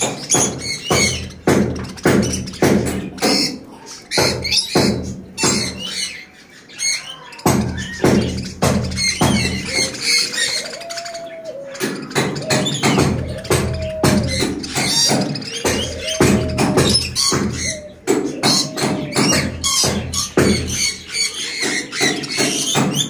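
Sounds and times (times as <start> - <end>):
budgerigars chirping: 0.0 - 23.0.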